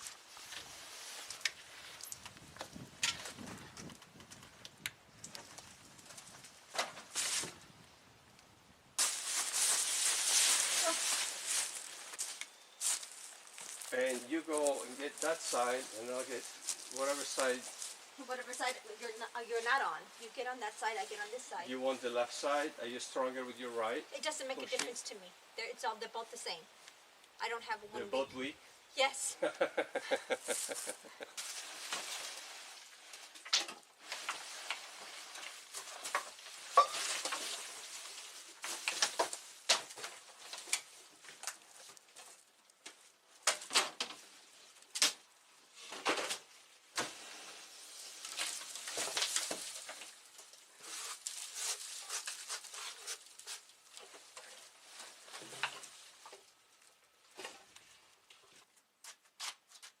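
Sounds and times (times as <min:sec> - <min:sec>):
debris rustling and scraping: 0:00.0 - 0:07.7, 0:09.0 - 0:22.6, 0:30.3 - 1:00.0.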